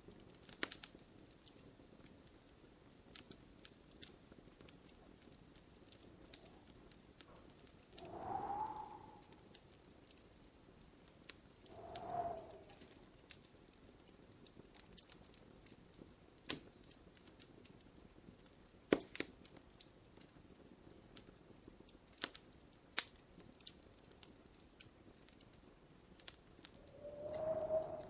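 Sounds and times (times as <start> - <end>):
soft fire hiss: 0.0 - 19.8, 20.6 - 28.0
wood fire crackling: 0.0 - 28.0.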